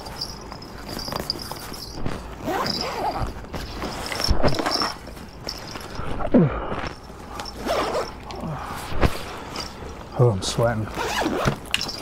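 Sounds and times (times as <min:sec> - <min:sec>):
fabric rustling and scraping: 0:00.0 - 0:08.2, 0:08.8 - 0:12.0.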